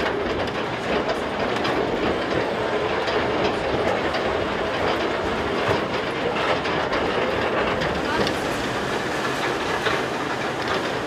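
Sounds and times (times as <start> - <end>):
funicular car running on rails: 0.0 - 11.0.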